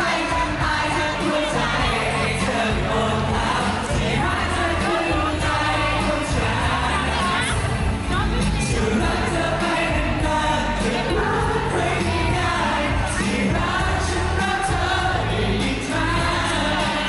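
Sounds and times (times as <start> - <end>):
amplified backing track with bass: 0.0 - 17.0
men singing pop song: 0.0 - 17.0.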